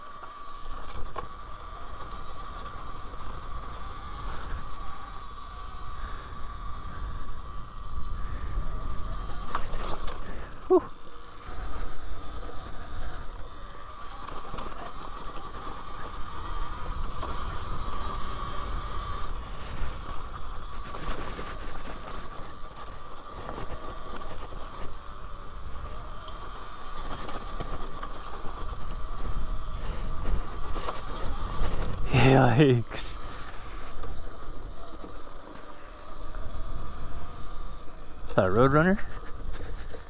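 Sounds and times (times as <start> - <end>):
electric motor whine: 0.0 - 40.0
wind: 0.0 - 40.0.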